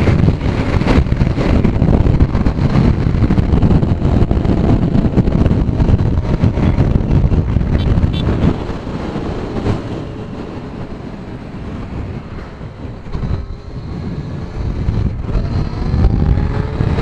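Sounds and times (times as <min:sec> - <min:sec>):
motorcycle engine: 0:00.0 - 0:17.0
wind buffeting microphone: 0:00.0 - 0:17.0.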